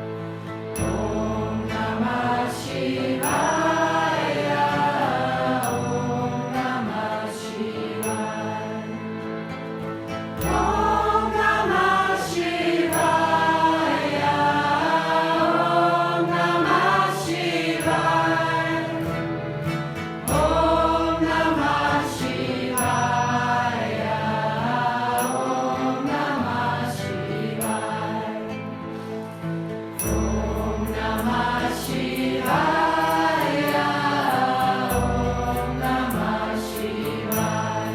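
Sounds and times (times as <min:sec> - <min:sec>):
voices chanting a mantra: 0:00.8 - 0:09.0, 0:10.4 - 0:19.3, 0:20.3 - 0:28.5, 0:30.2 - 0:37.9.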